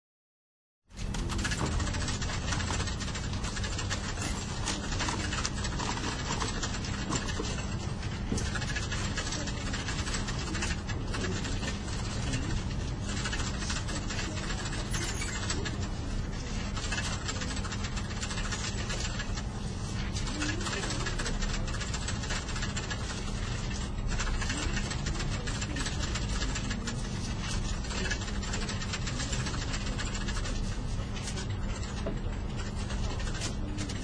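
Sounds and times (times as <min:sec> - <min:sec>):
indistinct background chatter: 0:01.0 - 0:34.0
steady low hum: 0:01.0 - 0:34.0.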